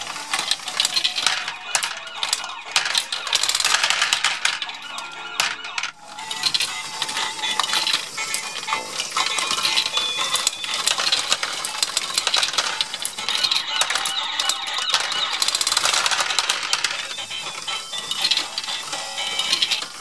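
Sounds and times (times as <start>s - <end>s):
small plastic balls rattling: 0.0s - 20.0s.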